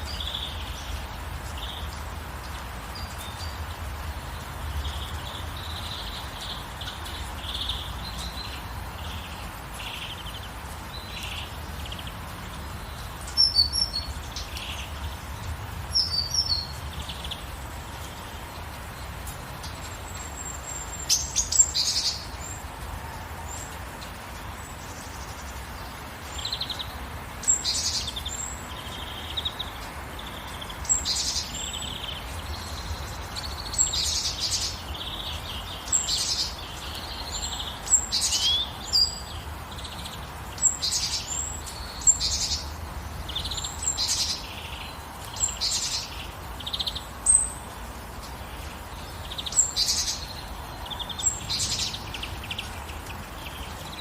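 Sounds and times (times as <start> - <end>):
gentle rain hiss: 0.0 - 54.0
songbirds chirping: 0.0 - 54.0.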